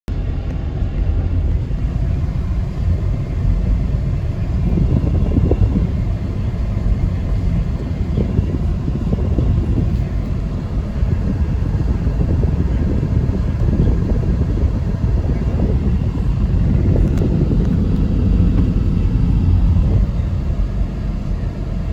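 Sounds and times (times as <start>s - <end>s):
car engine rumbling unevenly: 0.1s - 21.9s.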